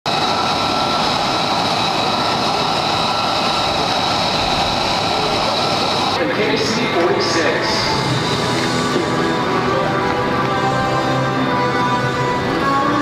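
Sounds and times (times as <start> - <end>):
turboprop aircraft engines droning: 0.1 - 13.0.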